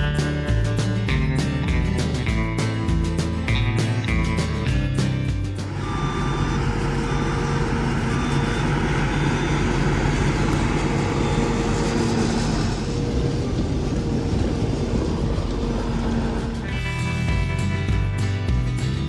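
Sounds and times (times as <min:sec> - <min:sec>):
combine harvester running: 0:00.5 - 0:18.3.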